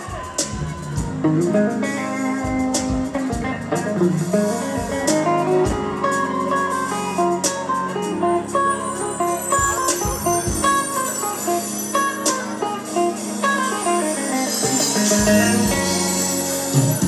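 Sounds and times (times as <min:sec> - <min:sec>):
bass guitar: 0:00.0 - 0:17.0
drums: 0:00.0 - 0:17.0
electric guitar lead melody: 0:00.0 - 0:17.0.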